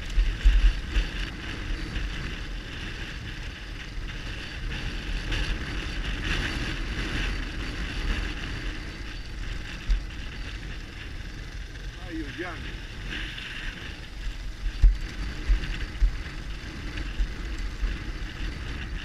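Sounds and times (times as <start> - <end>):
motorcycle engine rumble: 0.0 - 19.0
wind rushing over microphone: 0.0 - 19.0.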